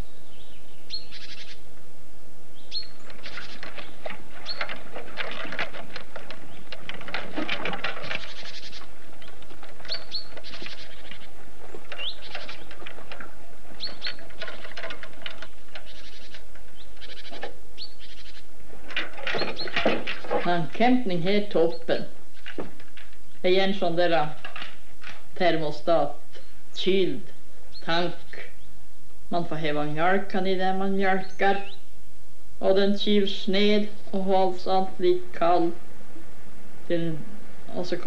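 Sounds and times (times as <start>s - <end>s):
small birds chirping: 0.0s - 1.7s, 2.5s - 32.0s, 32.6s - 35.8s.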